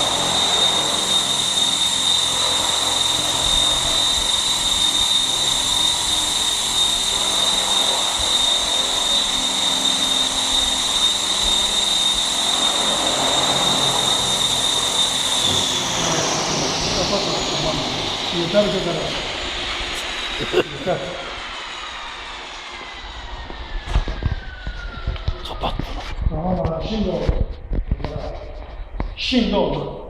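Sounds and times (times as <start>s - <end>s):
rotor blades rushing: 0.0s - 26.3s
helicopter motor whine: 0.0s - 29.0s.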